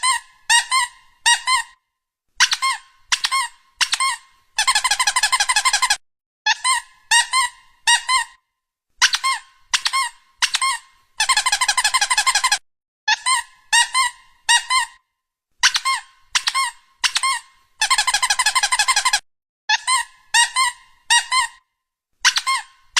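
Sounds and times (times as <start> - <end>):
squeaky rubber toy squeaks: 0.0 - 1.8, 2.4 - 8.4, 9.0 - 15.0, 15.6 - 22.9.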